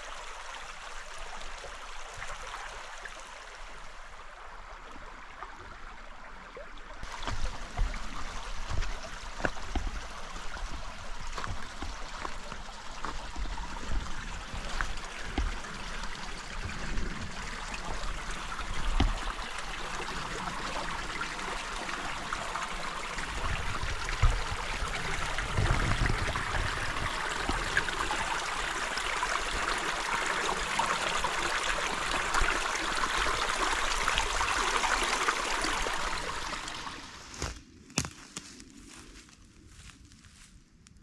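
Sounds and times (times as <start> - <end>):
stream babbling: 0.0 - 37.4.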